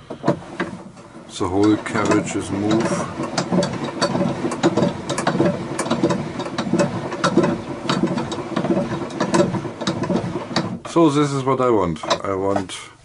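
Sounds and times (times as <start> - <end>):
wooden gears clicking and knocking: 0.0 - 12.8.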